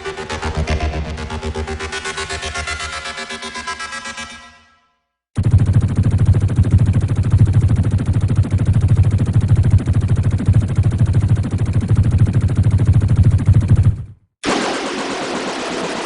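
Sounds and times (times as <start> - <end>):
rapid synthesized low pulses: 0.0 - 4.5, 5.4 - 16.0.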